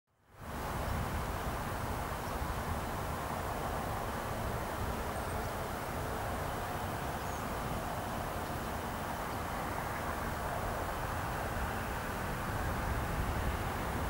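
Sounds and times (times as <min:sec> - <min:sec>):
distant jet engines rushing: 0:00.8 - 0:14.0.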